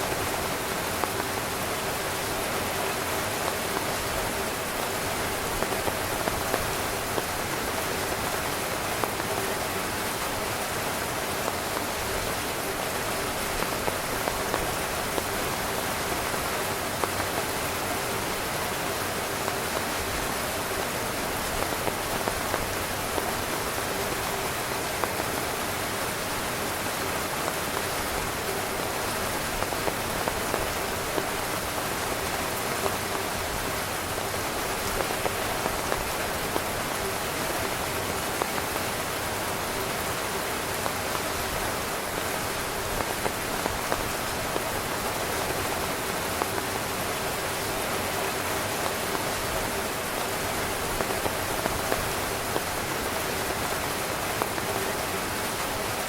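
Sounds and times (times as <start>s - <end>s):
rain pattering on tent: 0.0s - 56.0s.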